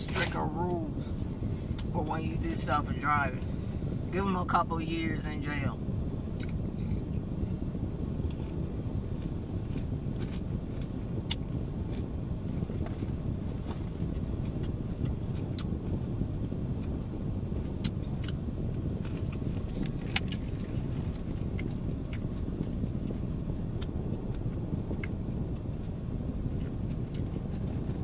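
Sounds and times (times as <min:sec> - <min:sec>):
car road noise rumble: 0:00.0 - 0:28.0.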